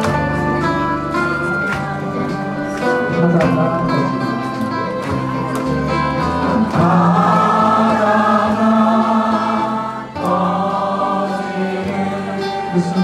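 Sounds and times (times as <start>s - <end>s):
crowd singing in chorus: 0.0s - 13.0s
live musical accompaniment: 0.0s - 13.0s.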